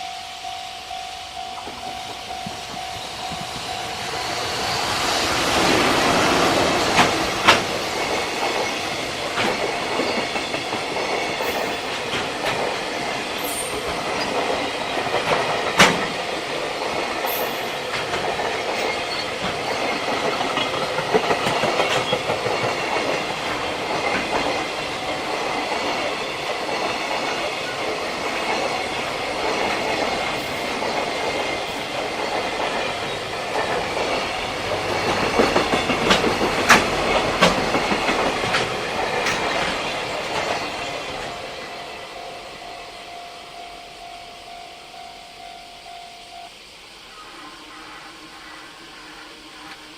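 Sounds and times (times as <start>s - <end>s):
freight train rolling past: 0.0s - 49.9s
wheels clacking over rail joints: 1.4s - 41.7s.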